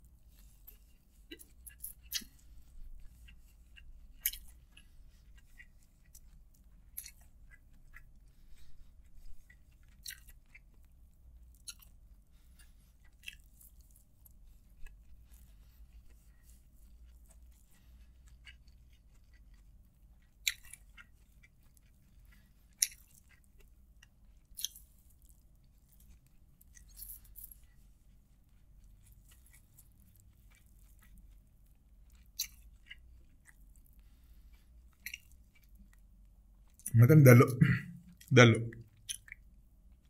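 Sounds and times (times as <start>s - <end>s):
close chewing mouth noises: 0.0s - 37.0s, 37.7s - 40.0s.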